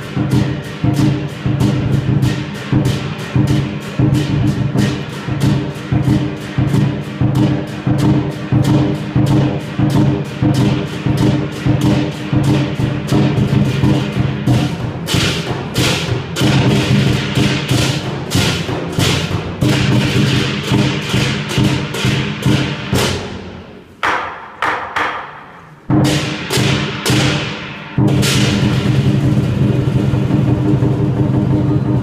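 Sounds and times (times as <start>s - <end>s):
barrel drum beating: 0.0s - 23.4s, 24.0s - 32.0s
hand cymbals crashing: 0.0s - 23.7s, 25.2s - 32.0s.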